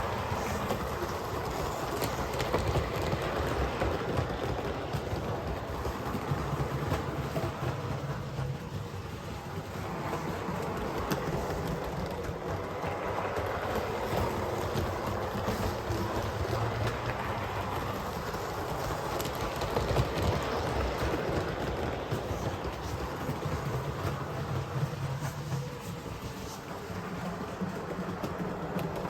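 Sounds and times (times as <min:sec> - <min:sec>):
model train motor and wheel rumble: 0:00.0 - 0:29.0.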